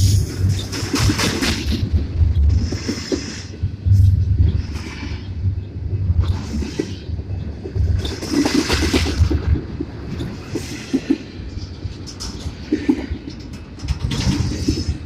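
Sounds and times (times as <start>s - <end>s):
freight train passing: 0.0s - 15.0s
wheels knocking on rail: 0.0s - 15.0s.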